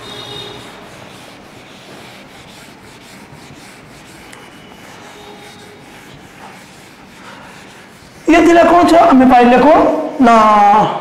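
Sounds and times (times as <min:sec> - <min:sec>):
eraser rubbing whiteboard: 0:00.0 - 0:09.8.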